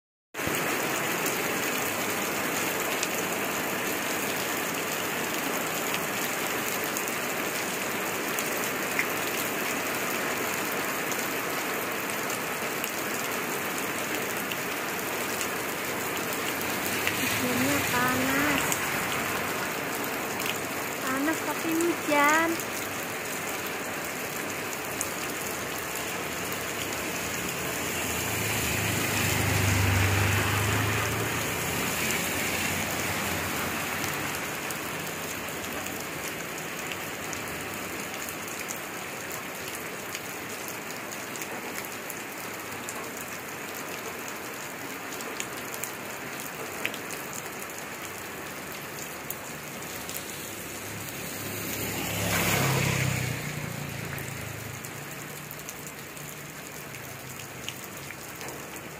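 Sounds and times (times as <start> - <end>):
heavy rain falling: 0.4 - 58.9.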